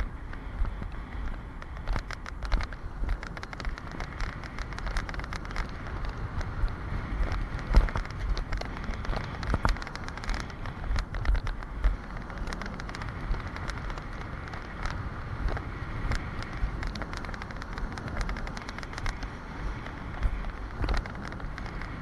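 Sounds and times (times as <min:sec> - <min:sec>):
coaster wheels rumbling on rails: 0:00.0 - 0:22.0
quick clicks and rattles: 0:00.6 - 0:22.0.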